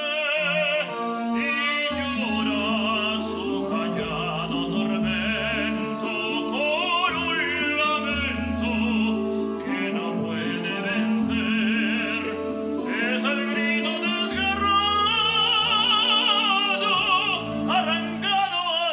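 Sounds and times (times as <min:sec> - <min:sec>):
man singing operatically: 0:00.0 - 0:18.9
sustained instrumental accompaniment: 0:00.0 - 0:18.9.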